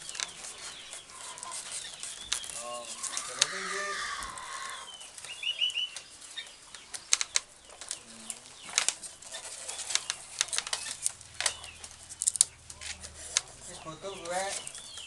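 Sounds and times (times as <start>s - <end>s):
rattan strands clicking and rustling: 0.0s - 15.0s.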